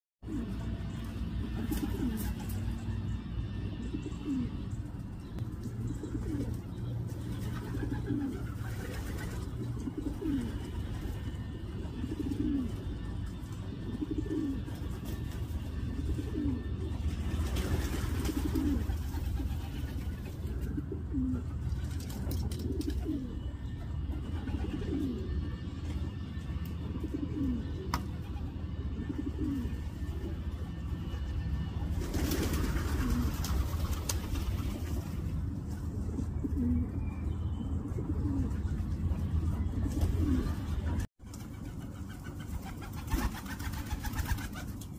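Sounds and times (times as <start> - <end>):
pigeon cooing: 0.2 - 44.9
steady low hum: 0.2 - 44.9.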